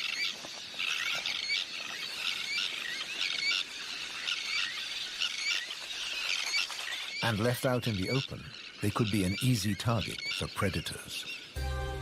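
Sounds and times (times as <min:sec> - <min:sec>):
terns calling harshly: 0:00.0 - 0:12.0.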